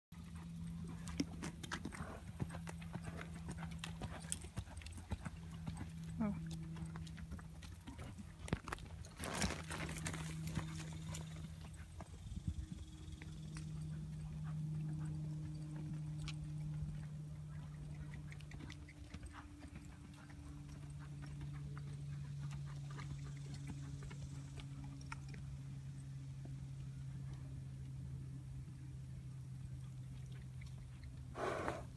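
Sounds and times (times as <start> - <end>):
horse hooves clopping: 0.2 - 31.9
steady low hum: 0.2 - 31.9.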